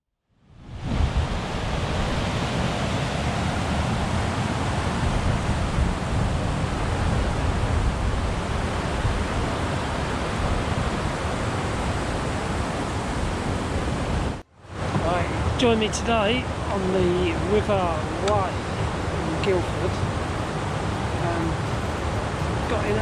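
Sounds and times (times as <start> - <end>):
loud outdoor rushing noise: 0.8 - 23.0.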